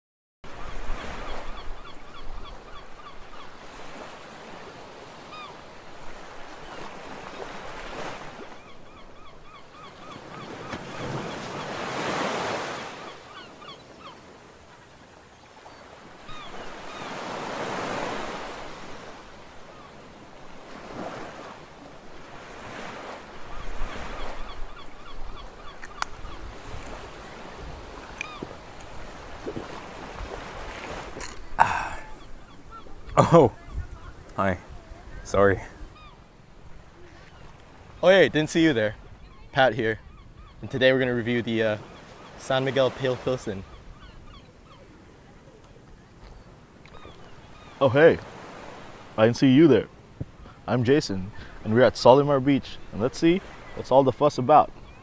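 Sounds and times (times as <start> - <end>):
waves breaking on a beach: 0.5 - 55.0.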